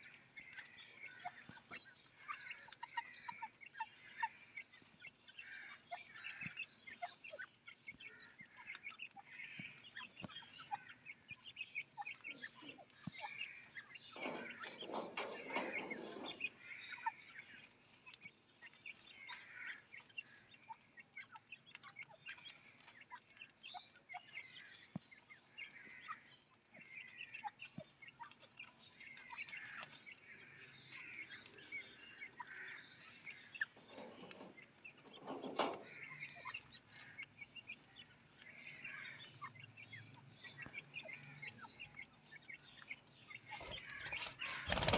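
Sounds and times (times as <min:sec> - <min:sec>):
flock of birds chirping: 0:00.0 - 0:44.9.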